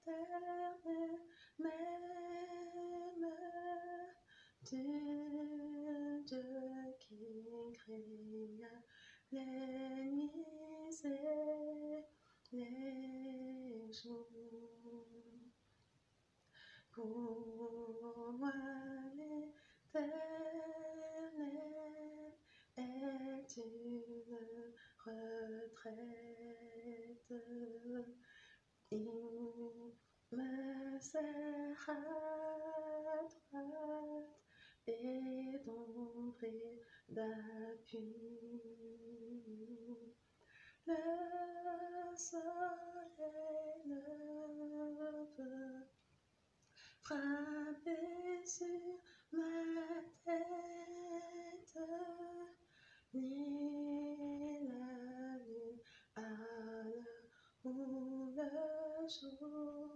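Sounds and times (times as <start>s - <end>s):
woman singing hymn unaccompanied: 0.0s - 15.6s, 16.8s - 46.0s, 46.8s - 59.9s.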